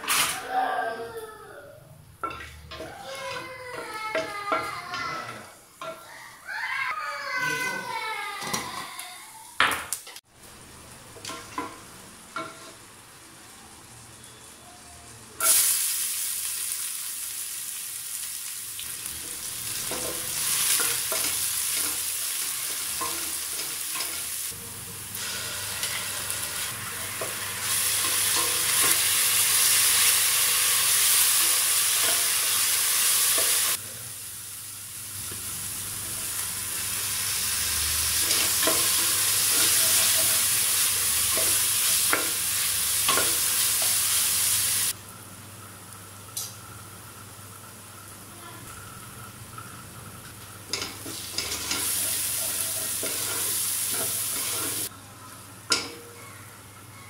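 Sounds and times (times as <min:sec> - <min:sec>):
onions sizzling in oil: 0:09.8 - 0:56.2.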